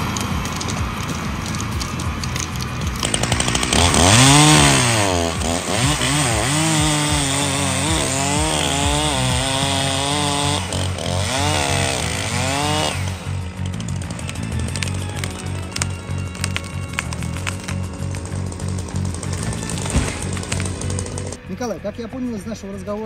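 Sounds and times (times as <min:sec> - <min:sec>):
chainsaw revving: 0:00.0 - 0:21.4
low drone: 0:00.0 - 0:23.0.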